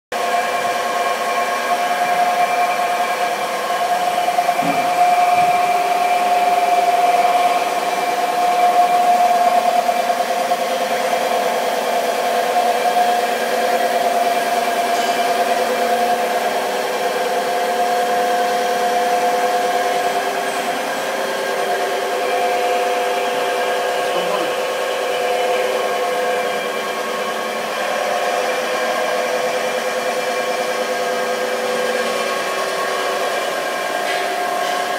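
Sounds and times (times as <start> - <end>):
machine tool motor whine: 0.2 - 34.9.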